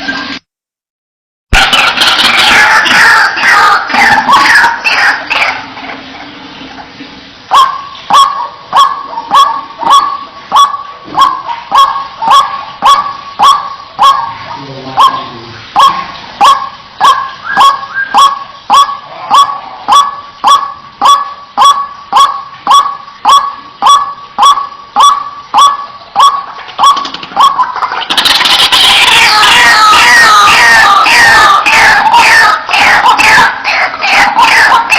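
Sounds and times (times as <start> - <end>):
waterhen sharp call: 1.6 - 6.0, 7.5 - 34.9.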